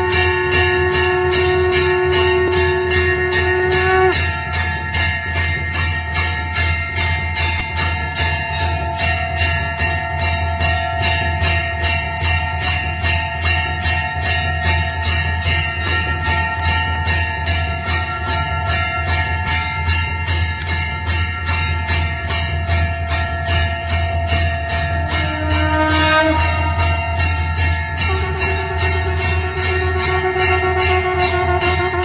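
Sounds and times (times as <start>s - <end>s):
steady low drone: 0.0s - 32.0s
temple bell ringing: 0.0s - 32.0s.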